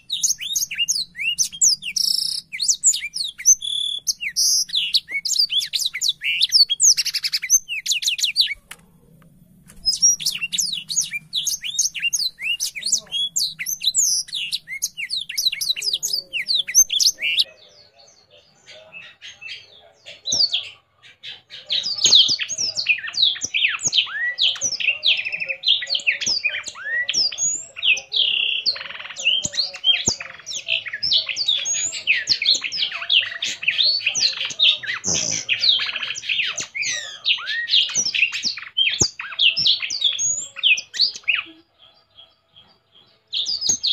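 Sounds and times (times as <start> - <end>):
songbird chirps and trills: 0.0 - 43.9.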